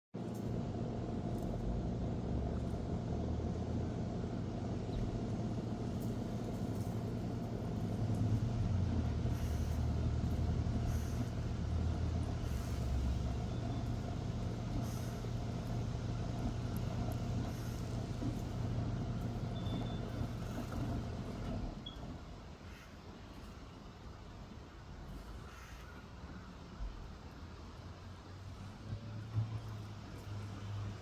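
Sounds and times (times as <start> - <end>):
low vehicle engine rumble: 0.2 - 31.0.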